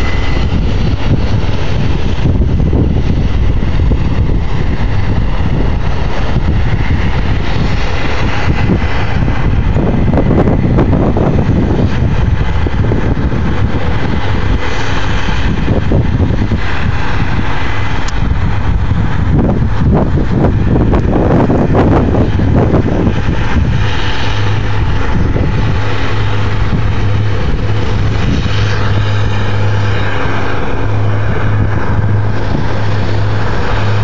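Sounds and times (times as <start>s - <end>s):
combine harvester running: 0.0s - 34.0s.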